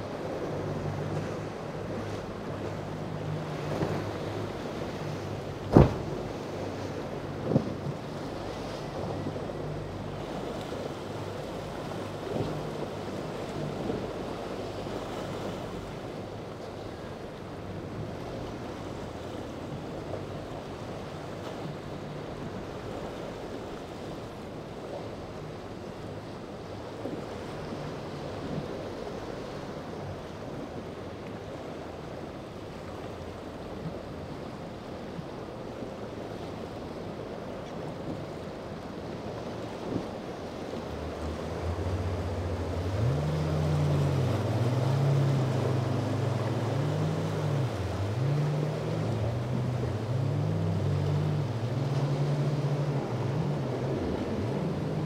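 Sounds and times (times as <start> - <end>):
boat engines droning: 0.0 - 55.0
waves breaking and rushing: 0.0 - 55.0.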